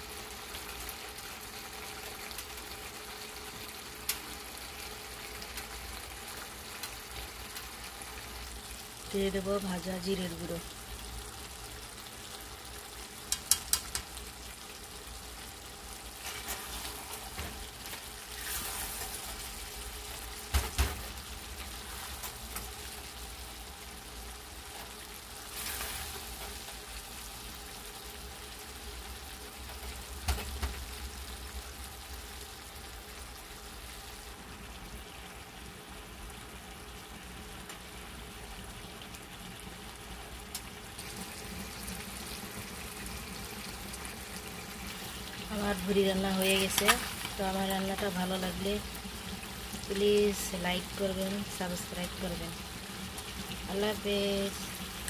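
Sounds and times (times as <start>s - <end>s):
food sizzling in a pot: 0.0s - 55.0s.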